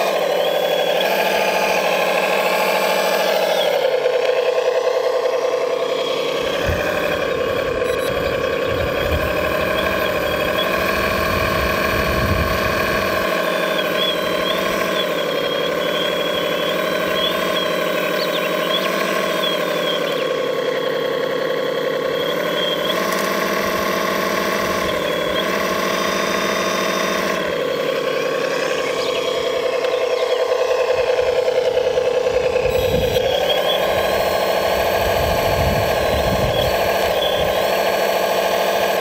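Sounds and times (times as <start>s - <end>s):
electric motors whining: 0.0s - 39.0s.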